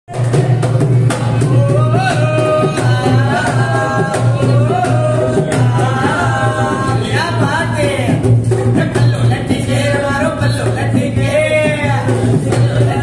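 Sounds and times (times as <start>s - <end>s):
steady drum beat: 0.1s - 13.0s.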